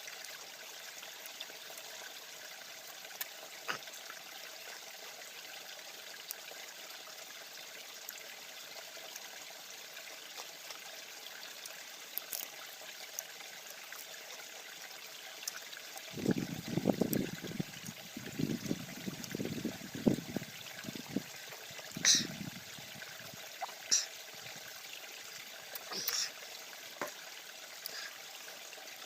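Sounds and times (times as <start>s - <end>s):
stream babbling over stones: 0.0s - 29.0s.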